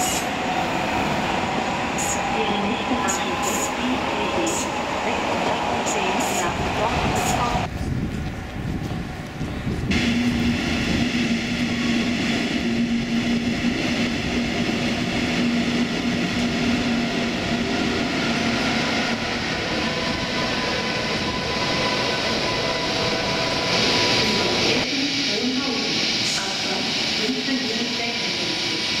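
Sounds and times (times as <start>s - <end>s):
train rolling into platform: 0.0s - 29.0s.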